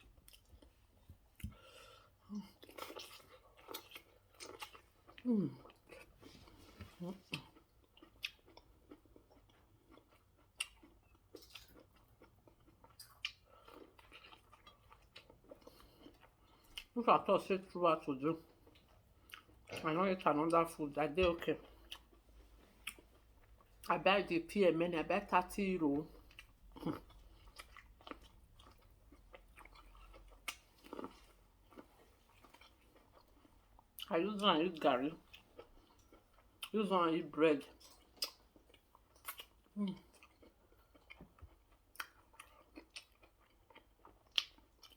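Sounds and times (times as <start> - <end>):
person chewing food: 0.0 - 17.0, 18.4 - 23.9, 25.9 - 34.1, 34.7 - 36.8, 37.7 - 44.9.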